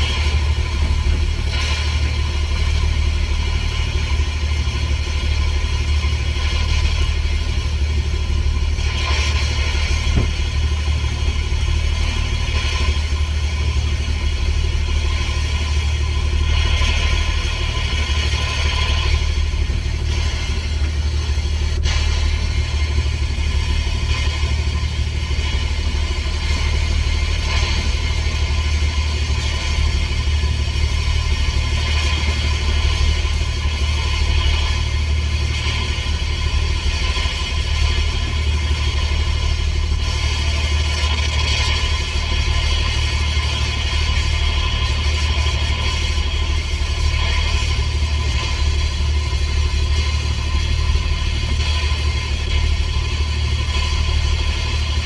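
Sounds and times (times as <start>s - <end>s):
boat engine rumbling: 0.0s - 55.0s.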